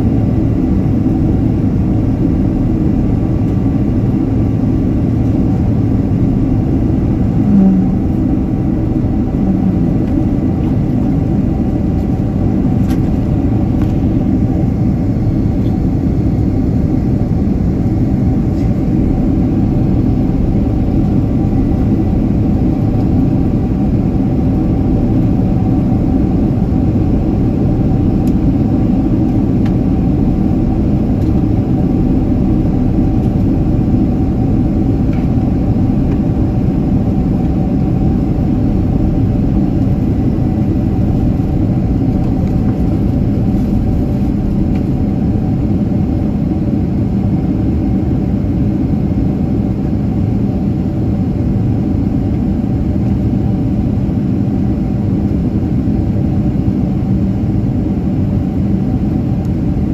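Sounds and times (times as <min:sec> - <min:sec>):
airplane cabin engine roar: 0:00.0 - 0:59.9
faint steady hum: 0:00.0 - 0:59.9.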